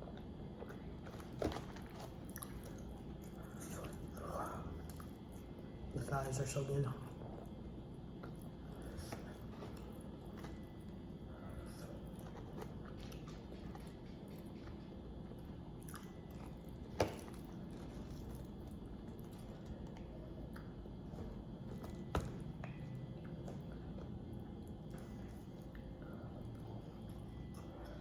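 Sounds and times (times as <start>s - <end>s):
person chewing fried chicken: 0.0s - 5.9s, 7.2s - 28.0s.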